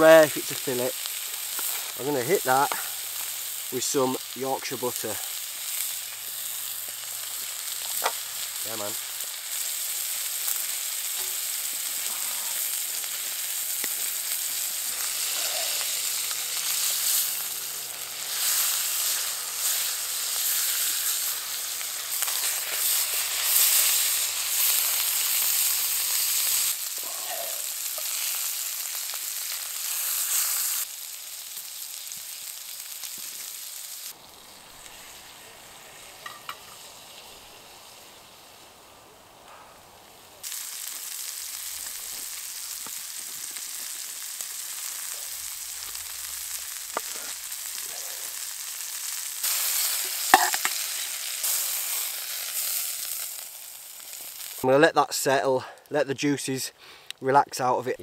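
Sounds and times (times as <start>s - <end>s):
steak sizzling in a skillet: 0.0s - 39.4s, 40.0s - 55.3s.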